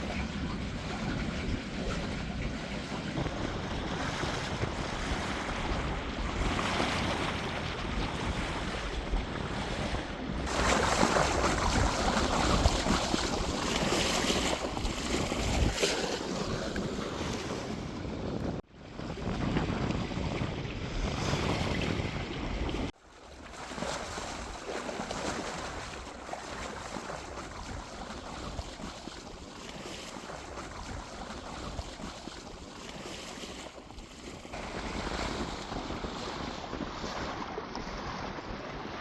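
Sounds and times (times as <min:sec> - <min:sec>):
water splashing along boat hull: 0:00.0 - 0:39.0
wind buffeting microphone: 0:00.0 - 0:39.0.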